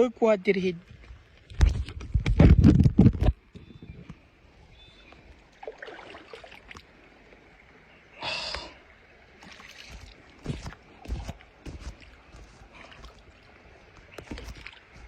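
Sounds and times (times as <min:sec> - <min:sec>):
faint water around kayak: 0:00.0 - 0:15.0.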